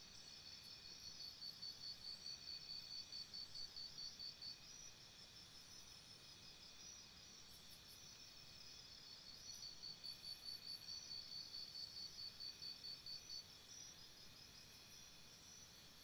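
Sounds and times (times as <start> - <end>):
low steady hiss: 0.0 - 16.0
insect trill: 0.1 - 16.0.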